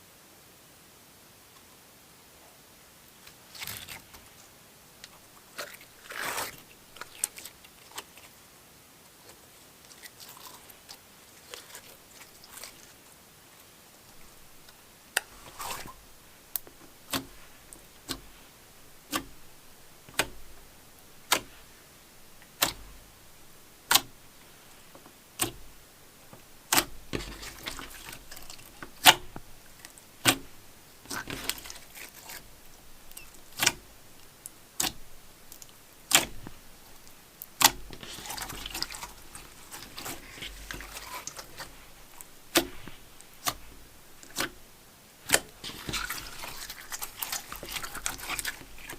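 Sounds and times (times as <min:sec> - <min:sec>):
slime squelching: 0:03.3 - 0:08.4, 0:09.1 - 0:48.9.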